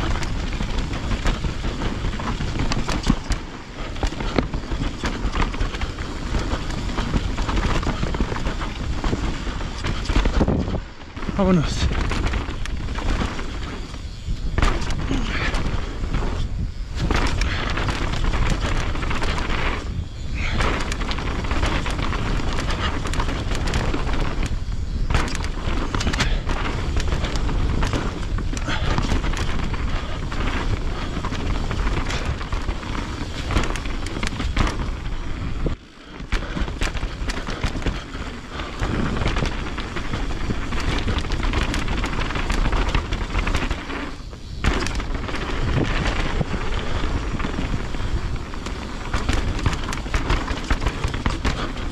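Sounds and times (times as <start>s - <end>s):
bike tyres and frame rattling: 0.0s - 51.9s
wind rumbling on microphone: 0.0s - 51.9s.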